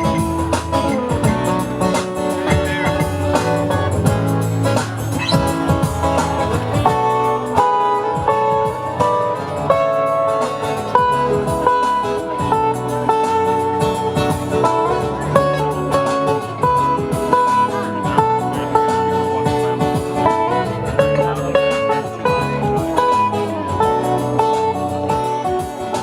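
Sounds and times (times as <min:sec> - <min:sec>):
plucked guitar melody: 0:00.0 - 0:26.0
strummed guitar accompaniment: 0:00.0 - 0:26.0.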